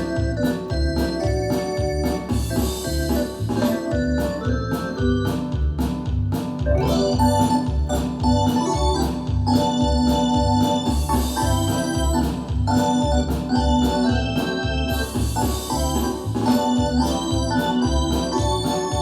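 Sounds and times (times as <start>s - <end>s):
synthesizer organ chords: 0.0s - 5.8s, 6.7s - 19.0s
bass line: 0.0s - 19.0s
drum beat: 0.0s - 19.0s.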